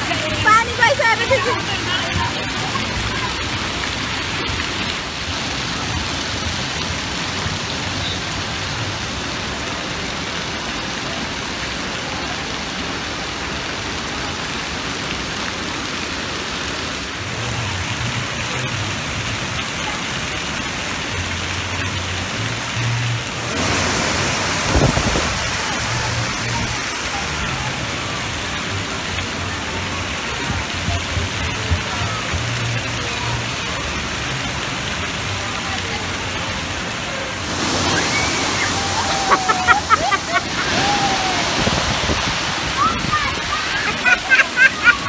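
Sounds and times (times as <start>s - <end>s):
water pouring down: 0.0s - 45.0s
water spraying and splashing: 0.0s - 45.0s.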